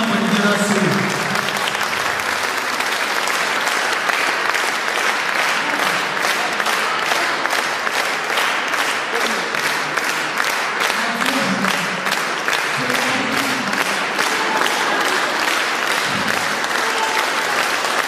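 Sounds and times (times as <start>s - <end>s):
audience applauding: 0.0s - 18.0s
rhythmic clapping in unison: 0.0s - 18.0s.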